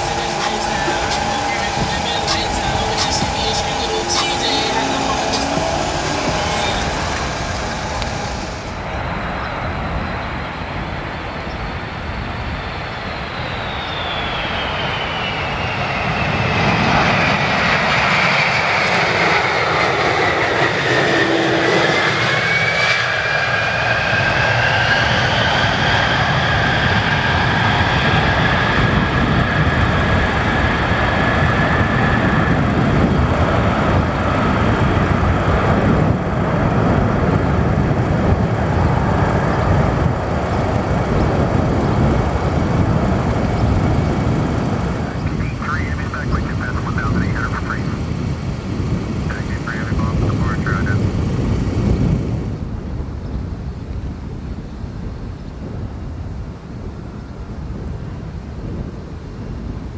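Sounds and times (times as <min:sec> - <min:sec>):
jet engine whine: 0:00.0 - 0:59.9.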